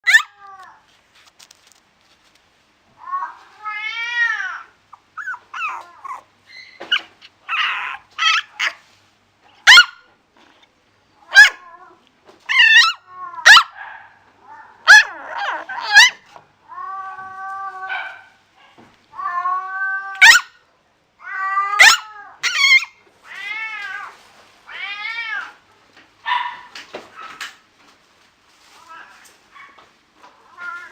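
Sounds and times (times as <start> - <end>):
puppies and kittens mewing: 0.0 - 1.6, 3.0 - 20.6, 21.2 - 27.6, 28.6 - 30.9.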